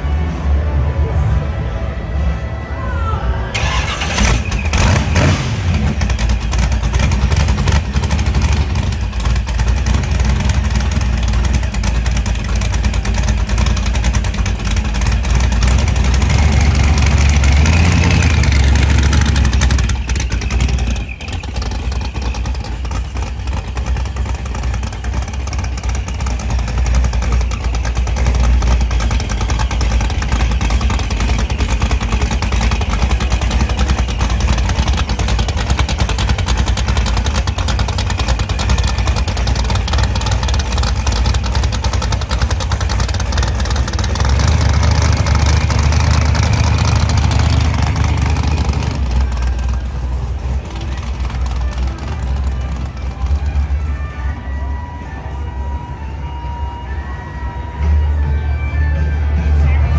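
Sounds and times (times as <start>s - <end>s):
supercharger whine: 0.0s - 59.9s
supercharged motorcycle engine revving: 3.6s - 54.0s.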